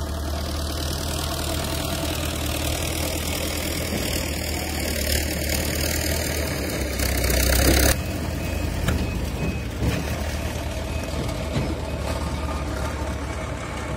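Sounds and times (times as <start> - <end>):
diesel engine humming: 0.0 - 13.9.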